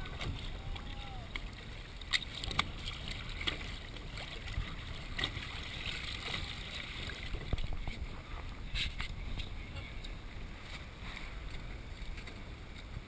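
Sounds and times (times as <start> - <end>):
waves lapping against boat hull: 0.0 - 13.0.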